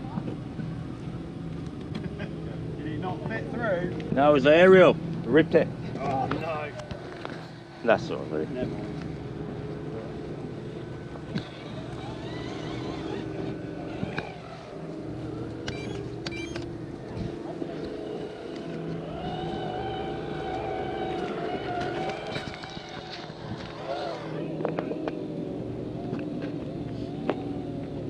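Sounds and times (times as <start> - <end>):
electric motors whining: 0.0 - 28.0
faint voices: 0.0 - 28.0.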